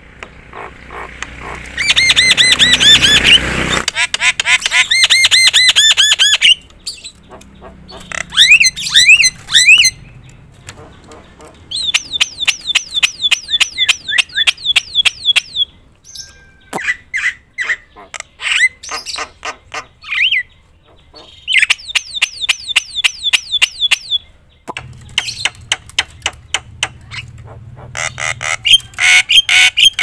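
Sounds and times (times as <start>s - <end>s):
harsh bird calls: 0.0s - 30.0s.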